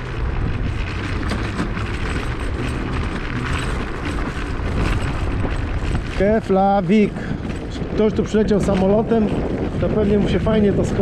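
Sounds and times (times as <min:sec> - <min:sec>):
tyres rattling on gravel: 0:00.0 - 0:11.0
wind on microphone: 0:00.0 - 0:11.0.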